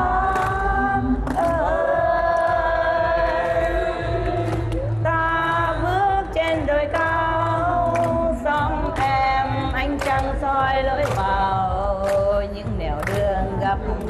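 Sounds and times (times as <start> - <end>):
low steady accompaniment tone: 0.0 - 14.0.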